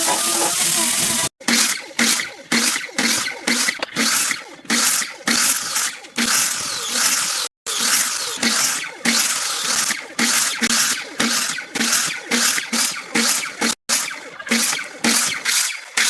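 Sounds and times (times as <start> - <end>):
rhythmic rasping strokes: 0.0 - 16.0.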